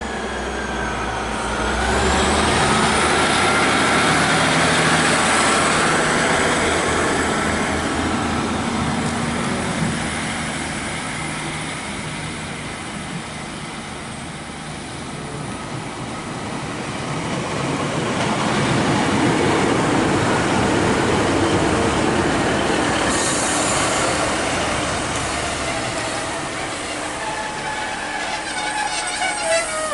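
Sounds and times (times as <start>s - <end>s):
passenger train running: 0.0s - 29.9s.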